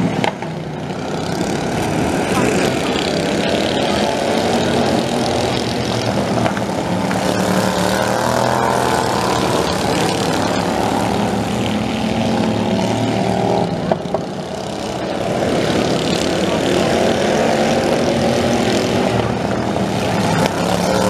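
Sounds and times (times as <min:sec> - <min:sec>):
lawn tractor engines racing: 0:00.0 - 0:21.0.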